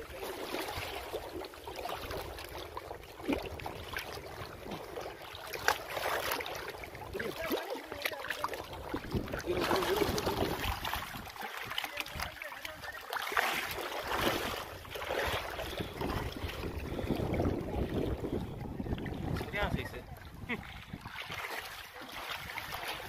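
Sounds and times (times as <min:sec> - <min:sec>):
sharp splashes: 0:00.0 - 0:18.4, 0:19.0 - 0:23.0
lake water splashing: 0:00.0 - 0:23.0.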